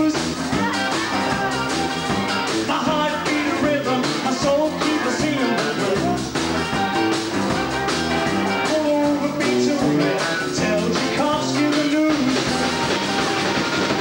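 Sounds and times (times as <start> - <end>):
electric guitars: 0.0 - 14.0
steady drum beat: 0.0 - 14.0.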